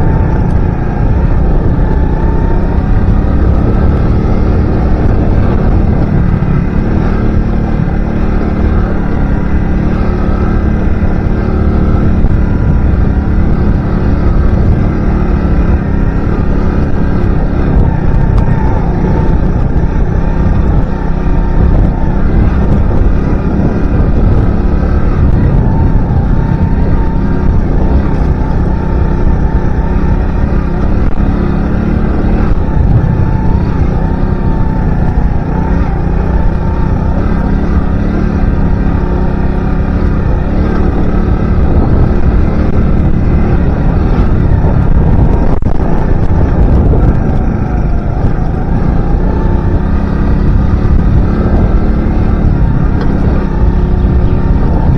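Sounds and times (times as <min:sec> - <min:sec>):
motorcycle engine rumbling: 0:00.0 - 0:54.9.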